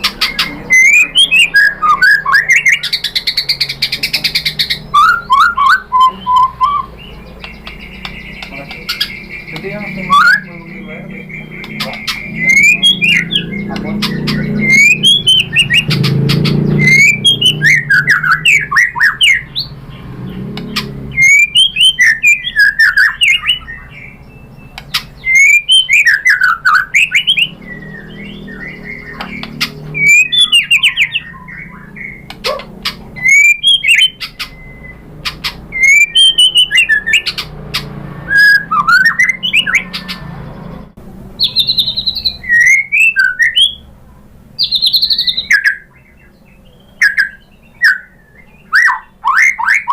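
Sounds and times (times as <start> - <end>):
songbird whistling and chattering: 0.0 - 43.9, 44.6 - 49.9.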